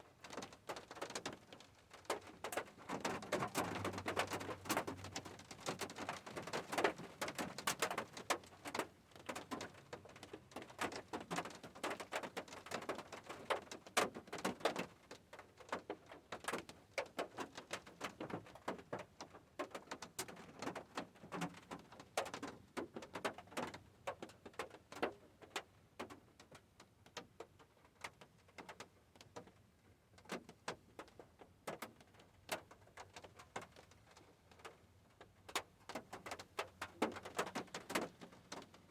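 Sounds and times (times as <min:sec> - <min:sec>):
raindrops ticking on hard surface: 0:00.2 - 0:38.9.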